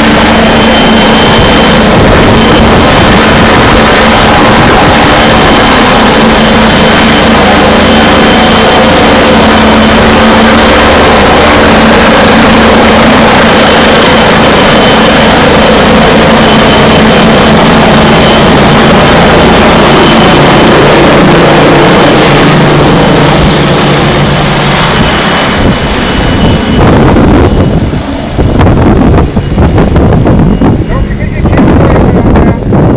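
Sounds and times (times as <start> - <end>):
helicopter hovering: 0.0 - 32.9.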